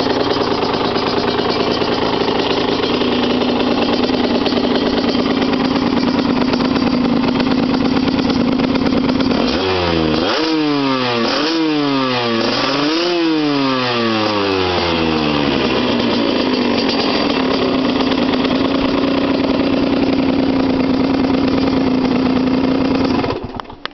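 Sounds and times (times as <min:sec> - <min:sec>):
two-stroke engine idling and revving: 0:00.0 - 0:23.9.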